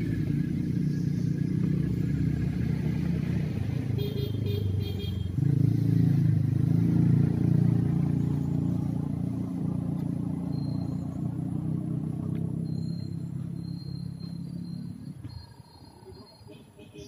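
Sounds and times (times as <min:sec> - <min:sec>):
passing vehicle engine rumble: 0:00.0 - 0:17.0.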